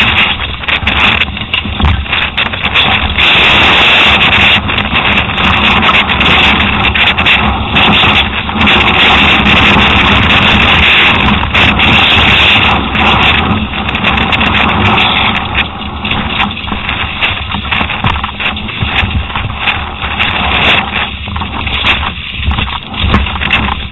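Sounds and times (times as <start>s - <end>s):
bike rattling over rocks: 0.0s - 23.9s
wind buffeting microphone: 0.0s - 23.9s.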